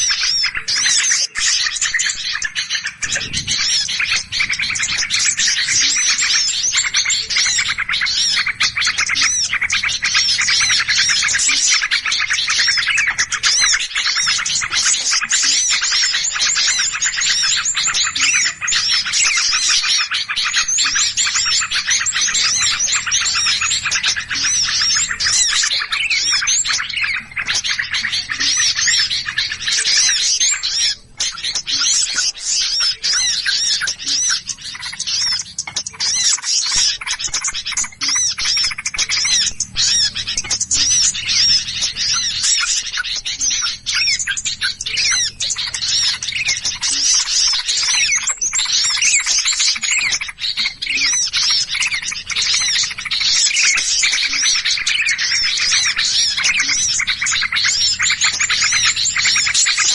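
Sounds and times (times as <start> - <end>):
chorus of songbirds chirping: 0.0 - 59.9.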